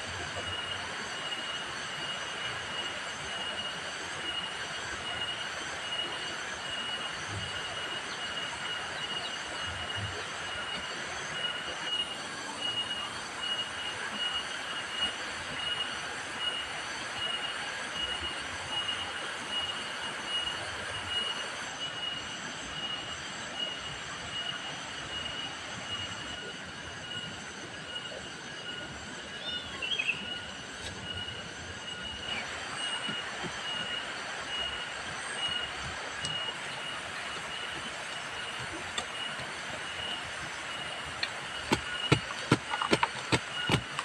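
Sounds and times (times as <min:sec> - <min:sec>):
high-pitched insect drone: 0:00.0 - 0:44.0.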